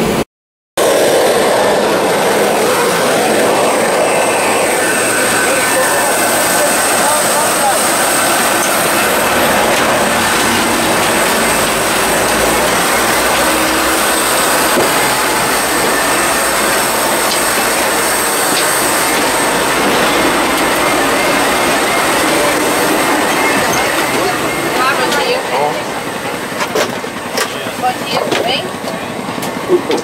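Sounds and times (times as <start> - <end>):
jet turbine roar: 0.8 - 30.0.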